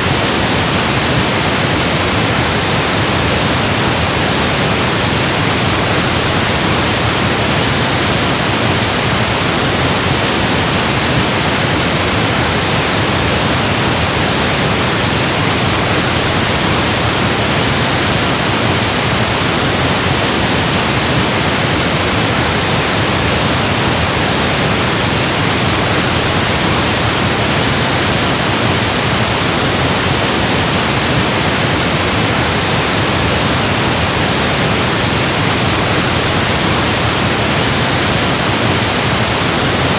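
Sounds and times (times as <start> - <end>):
synthetic pink noise hiss: 0.0 - 39.9.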